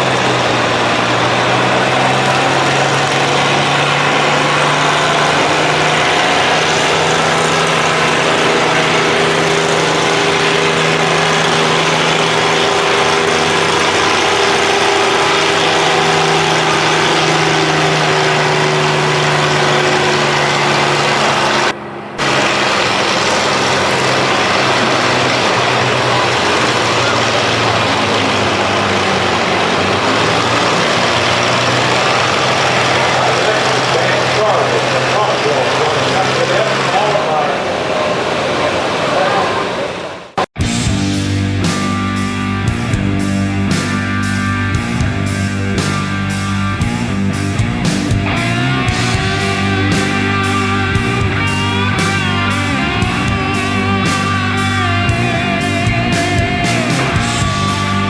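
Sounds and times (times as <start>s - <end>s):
tractor engine running hard: 0.0s - 58.0s.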